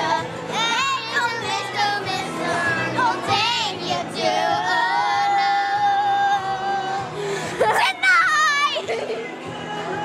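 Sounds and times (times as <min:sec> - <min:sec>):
girls singing: 0:00.0 - 0:10.0.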